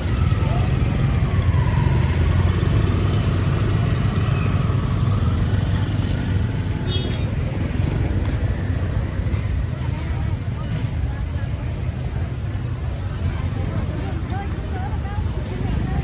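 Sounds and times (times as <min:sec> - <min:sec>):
faint voices: 0:00.0 - 0:16.0
motorbike and car engines: 0:00.0 - 0:16.0.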